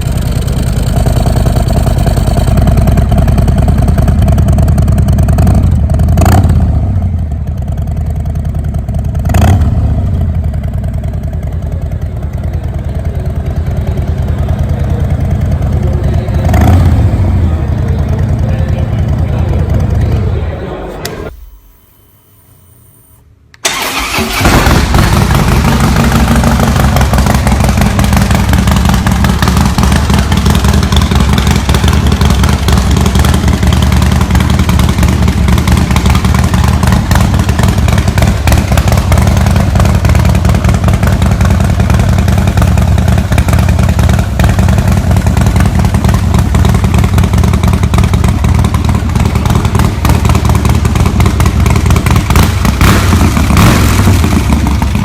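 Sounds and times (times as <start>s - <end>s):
motorcycle engine running loud: 0.0s - 20.5s, 24.3s - 55.0s.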